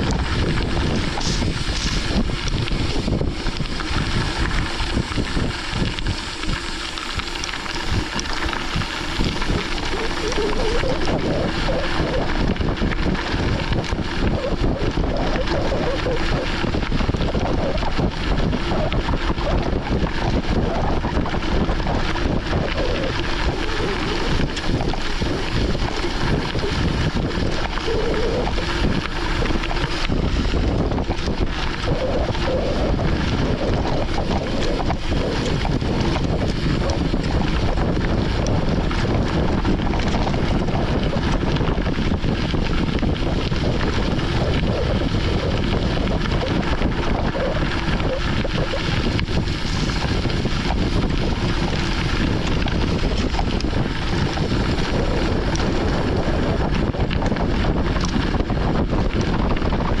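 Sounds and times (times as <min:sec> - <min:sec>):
bike rumbling over dirt road: 0:00.0 - 1:00.0
wind buffeting microphone: 0:00.0 - 1:00.0.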